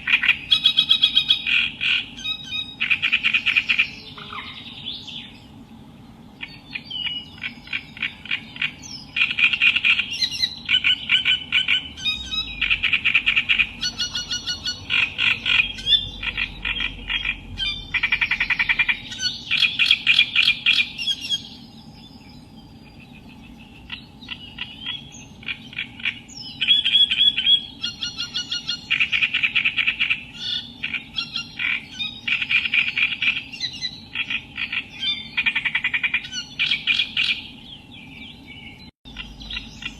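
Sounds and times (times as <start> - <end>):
reed warbler chattering song: 0.0 - 39.9.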